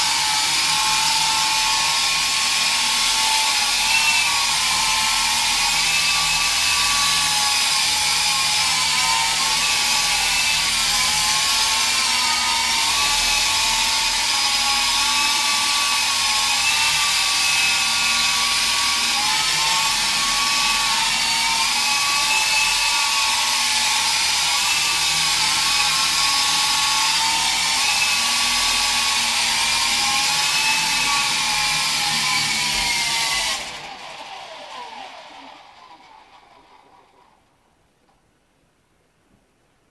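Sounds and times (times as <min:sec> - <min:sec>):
toy helicopter motor whine: 0:00.0 - 0:37.3.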